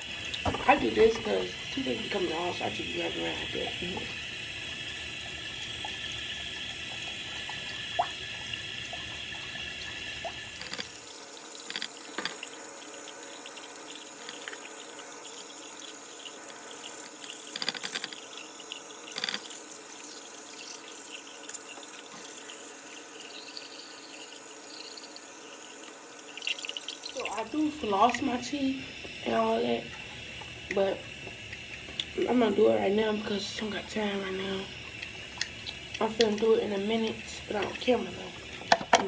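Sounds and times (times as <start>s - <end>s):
tap running into basin: 0.0s - 39.0s.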